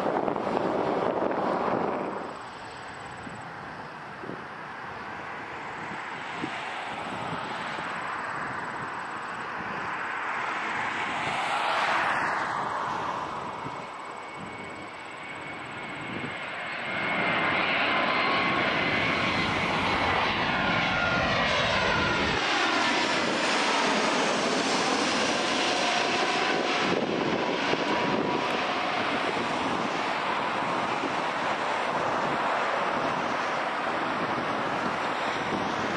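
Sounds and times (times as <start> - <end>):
jet passing overhead: 0.0 - 35.9.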